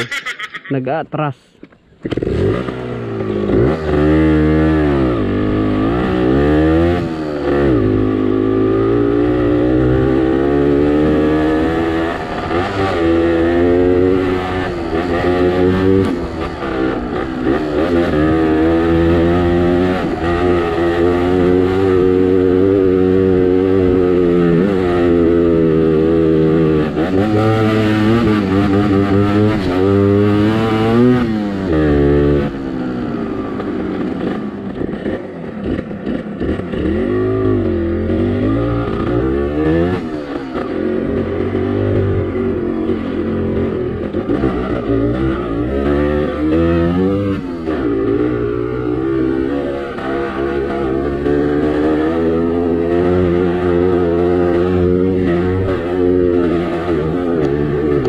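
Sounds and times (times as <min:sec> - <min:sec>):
two-stroke motorbike engine revving: 0:02.0 - 0:58.0.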